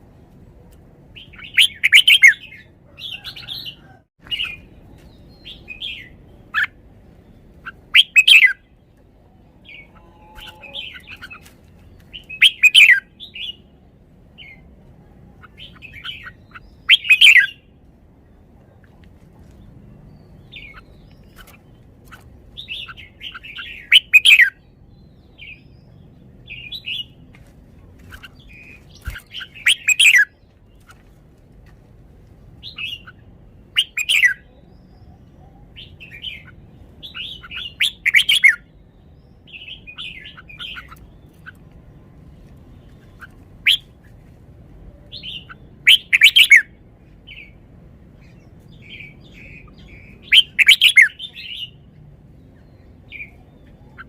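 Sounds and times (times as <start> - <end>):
bird warbled song: 1.1 - 14.7, 15.3 - 31.3, 32.6 - 54.0
soft bird twittering: 1.2 - 13.7, 15.3 - 17.7, 18.3 - 27.3, 27.9 - 31.2, 32.6 - 44.2, 44.8 - 47.6, 48.2 - 54.0.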